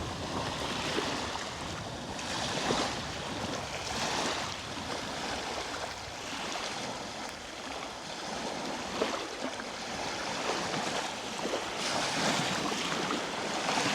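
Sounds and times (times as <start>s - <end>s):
ocean waves washing ashore: 0.0s - 13.9s.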